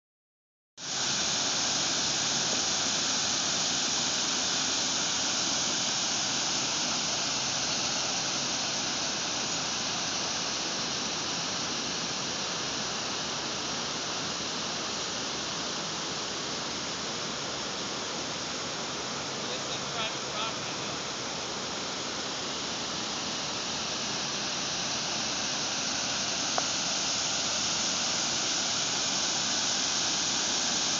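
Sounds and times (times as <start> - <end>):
water rushing over rapids: 0.8 - 30.9.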